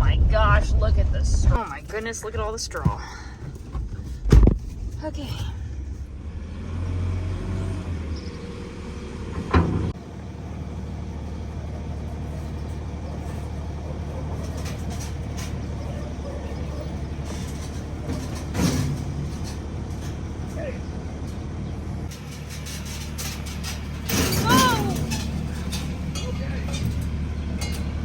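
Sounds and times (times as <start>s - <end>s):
motor vehicle running on road: 0.0s - 28.0s.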